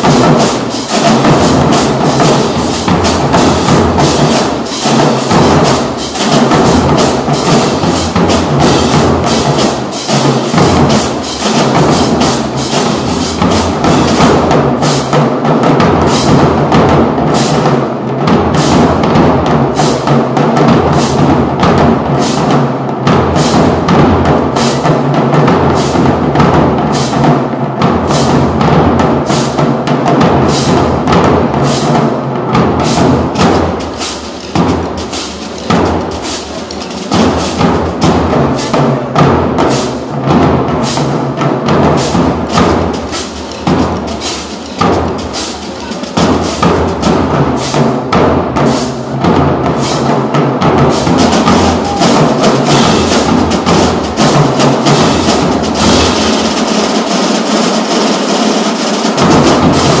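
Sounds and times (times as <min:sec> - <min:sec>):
marching drumline playing: 0:00.0 - 1:00.0.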